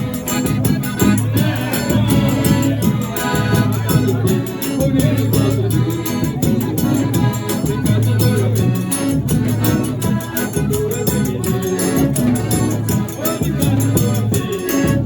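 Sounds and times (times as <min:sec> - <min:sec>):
person singing: 0:00.0 - 0:15.0
quick high percussion beat: 0:00.0 - 0:15.0.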